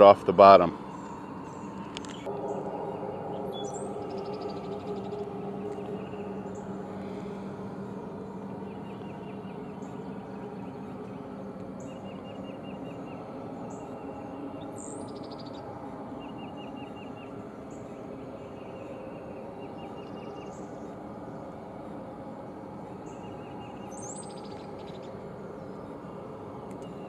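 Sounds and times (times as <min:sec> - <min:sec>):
birds singing: 0:00.0 - 0:27.0
steady background hum: 0:00.0 - 0:27.0.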